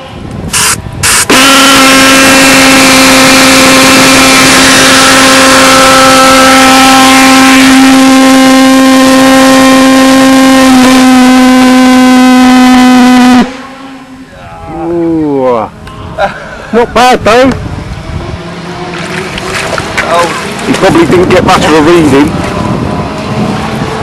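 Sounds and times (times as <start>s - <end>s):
pulsejet engine droning: 0.0s - 24.0s.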